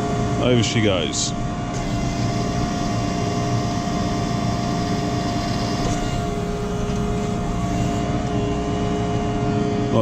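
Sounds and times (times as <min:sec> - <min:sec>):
tractor diesel engine running: 0:00.0 - 0:09.4
hydraulic whine: 0:00.0 - 0:10.0.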